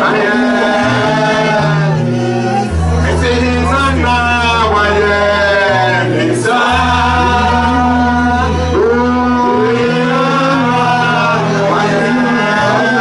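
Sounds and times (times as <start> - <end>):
live band with keyboard and bass: 0.0 - 13.0
man singing into a microphone: 0.0 - 13.0.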